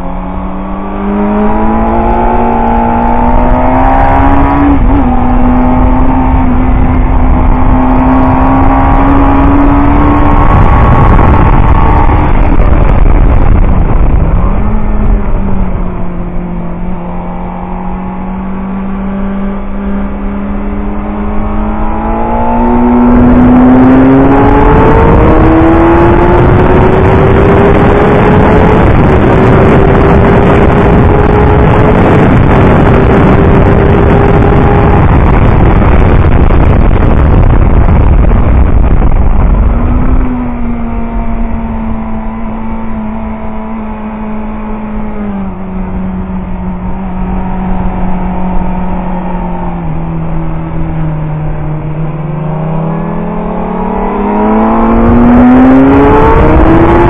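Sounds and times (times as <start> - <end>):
heavy wind noise: 0.0 - 57.0
motorcycle engine revving: 0.0 - 57.0.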